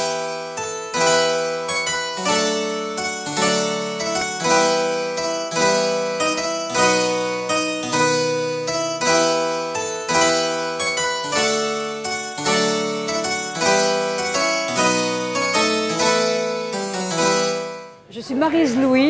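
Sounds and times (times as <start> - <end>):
keyboard playing notes and chords: 0.0 - 18.1.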